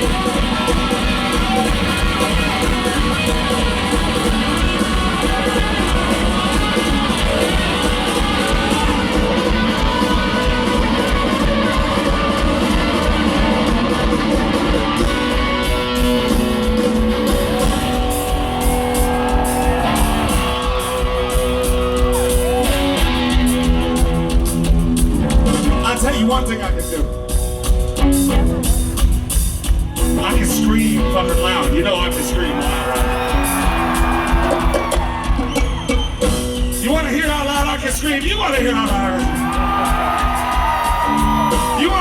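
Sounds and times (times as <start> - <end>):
live rock band: 0.0 - 42.0
steady drum beat: 0.0 - 42.0.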